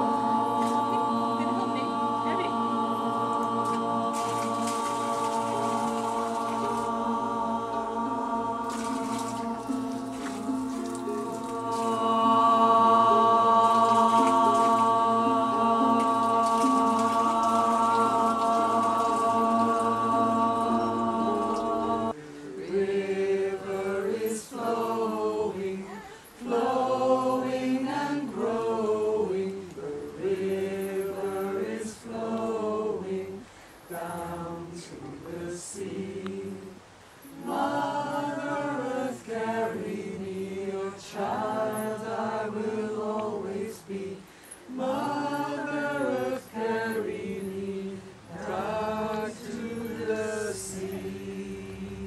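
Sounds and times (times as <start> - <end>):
group singing chant-like song: 0.0 - 52.0.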